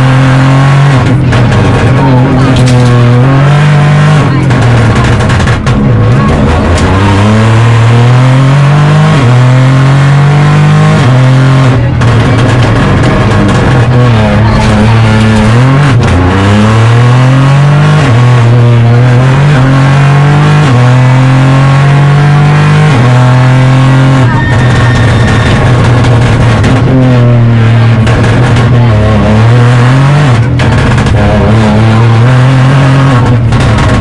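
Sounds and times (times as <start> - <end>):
car engine accelerating hard: 0.0 - 34.0.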